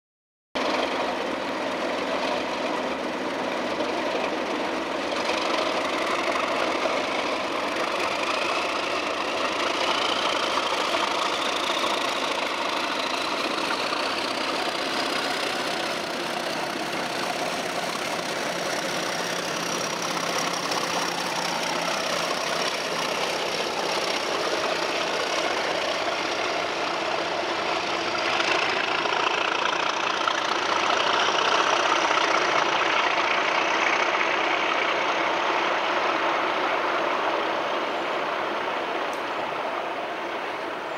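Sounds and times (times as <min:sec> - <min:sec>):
diesel locomotive engines pulling away: 0:00.6 - 0:40.9.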